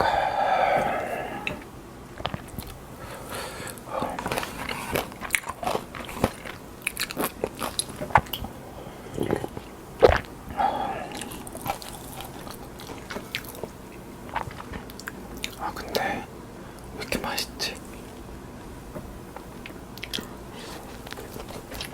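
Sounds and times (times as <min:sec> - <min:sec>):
chewing crunchy food: 0:00.0 - 0:02.8, 0:03.5 - 0:18.2, 0:19.4 - 0:21.9.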